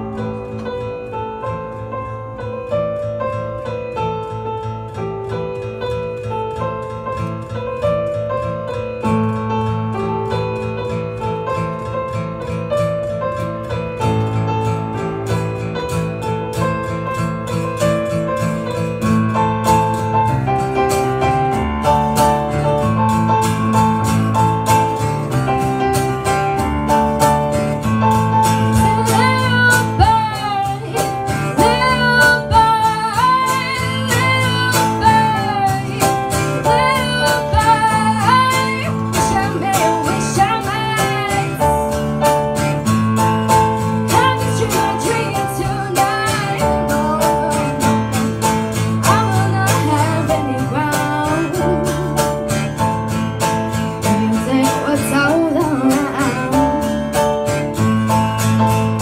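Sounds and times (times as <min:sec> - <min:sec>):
acoustic guitar: 0:00.0 - 0:59.0
electric keyboard: 0:00.0 - 0:59.0
sliding melody line: 0:05.3 - 0:59.0.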